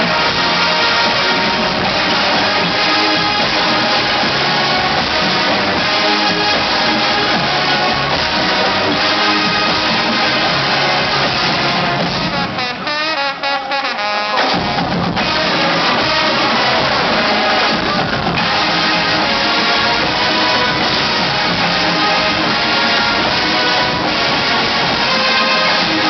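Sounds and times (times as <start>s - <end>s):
bass drums: 0.0s - 12.8s, 14.4s - 26.0s
high wavering brass: 0.0s - 26.0s
marching band playing rock: 0.0s - 26.0s.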